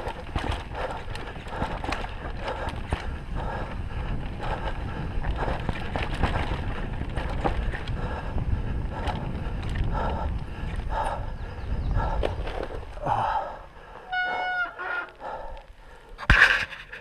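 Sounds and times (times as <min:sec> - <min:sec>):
wind buffeting microphone: 0:00.0 - 0:16.0
bike clicking and rattling: 0:00.0 - 0:17.0.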